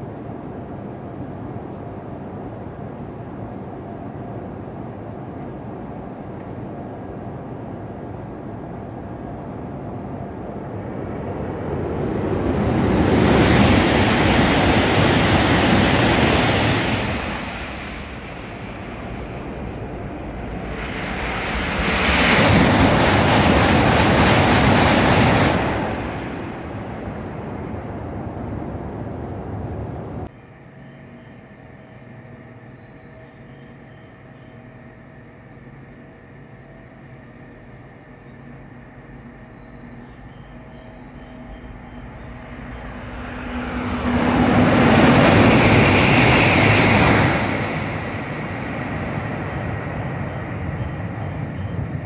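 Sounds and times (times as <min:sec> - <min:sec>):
high-speed train rushing past: 0:00.0 - 0:30.4, 0:36.2 - 0:52.0
wind: 0:00.0 - 0:52.0.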